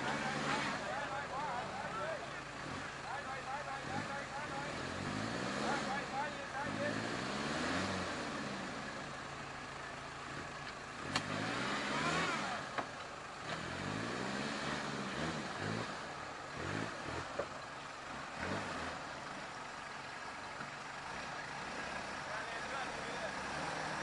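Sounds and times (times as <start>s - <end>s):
off-road engine revving: 0.0s - 24.0s.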